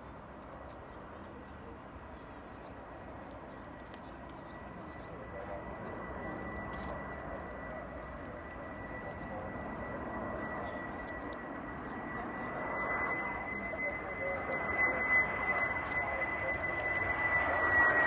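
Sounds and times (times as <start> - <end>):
jet airliner flying over: 0.0 - 18.0.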